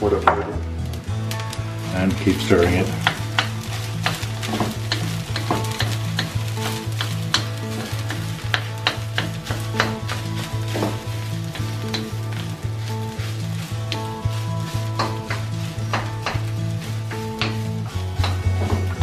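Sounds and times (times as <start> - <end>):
rice sizzling in pan: 0.0 - 19.0
spatula scraping pan: 2.1 - 19.0.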